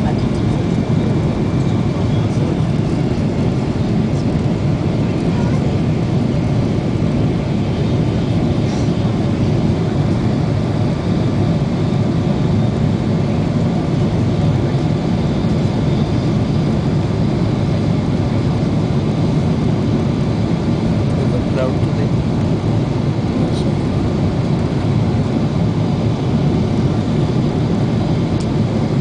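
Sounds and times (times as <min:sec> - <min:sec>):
jet engines low rumble: 0:00.0 - 0:29.0.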